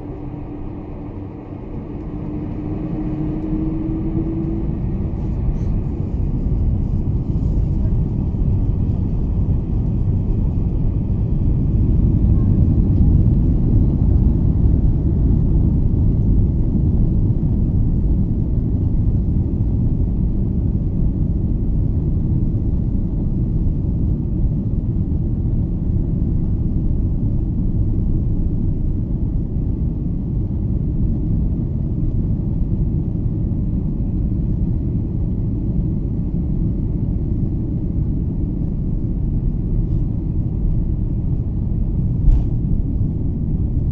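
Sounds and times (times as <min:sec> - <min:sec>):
airplane engines and rushing air: 0:00.0 - 0:43.9.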